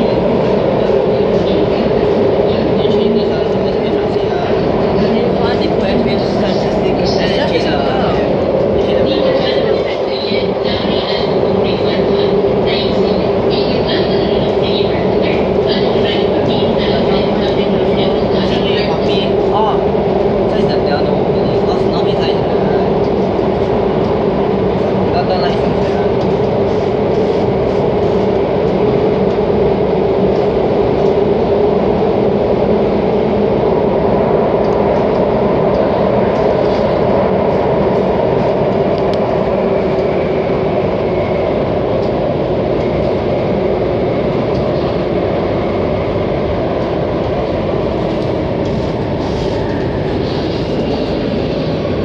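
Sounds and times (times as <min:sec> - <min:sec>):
underground train running: 0:00.0 - 0:52.0.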